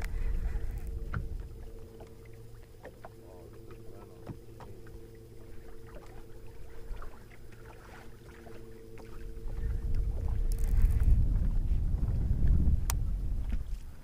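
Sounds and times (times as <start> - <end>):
electric trolling motor humming: 0.0 - 14.0
wind rumble on microphone: 0.0 - 14.0.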